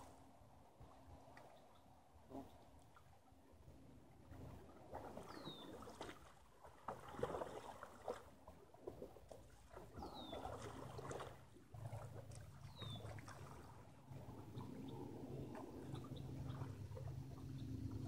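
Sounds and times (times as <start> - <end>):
water splashing around kayak: 0.0 - 18.0.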